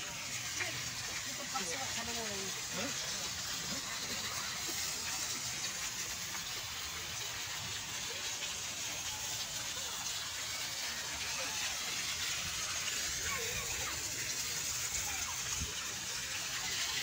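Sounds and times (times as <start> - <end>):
fountain water splashing into basin: 0.0 - 17.0.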